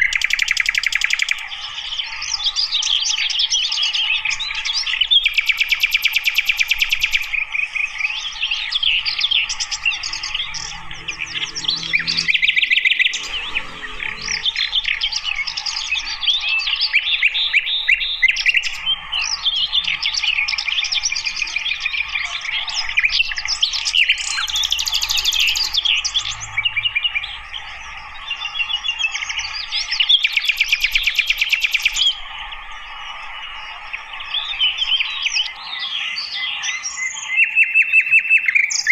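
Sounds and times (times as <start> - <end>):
bird chirping and twittering: 2.0 - 38.9.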